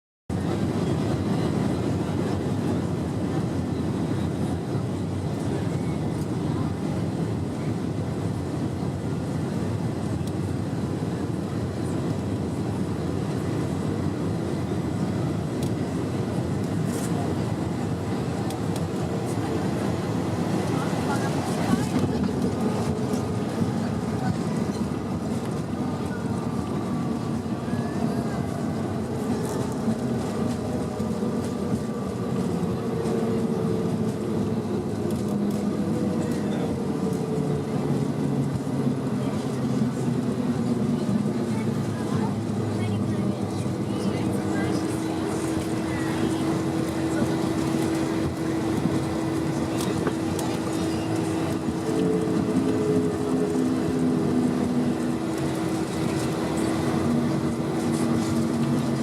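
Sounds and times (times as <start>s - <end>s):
airplane cabin engine roar: 0.3s - 59.0s.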